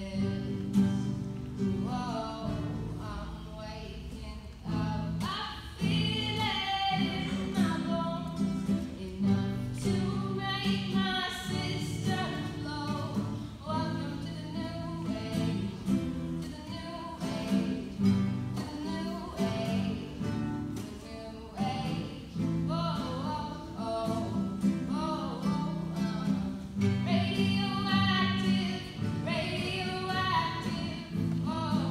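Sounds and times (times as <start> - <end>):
acoustic guitar: 0.0 - 31.9
girl singing: 0.0 - 31.9.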